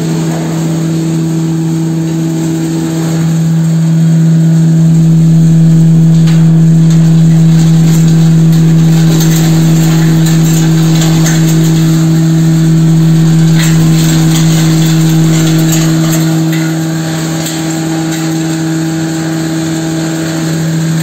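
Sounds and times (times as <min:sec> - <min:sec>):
grinding machine humming: 0:00.0 - 0:21.0
roots crackling being ground: 0:02.8 - 0:21.0.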